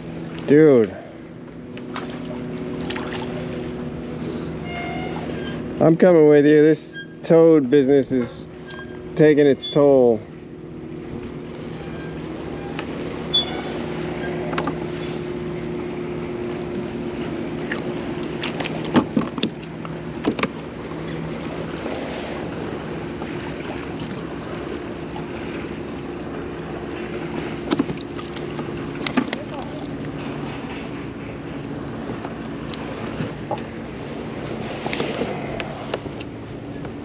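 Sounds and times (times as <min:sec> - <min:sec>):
low engine hum: 0:00.0 - 0:37.0.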